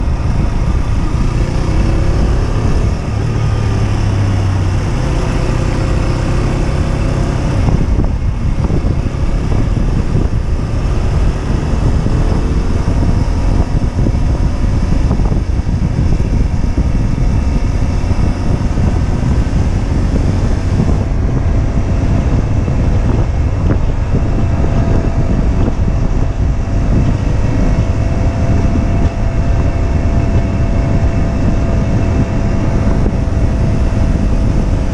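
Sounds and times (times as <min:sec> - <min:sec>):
motorcycle engine running: 0:00.0 - 0:34.9
wind rush on microphone: 0:00.0 - 0:34.9.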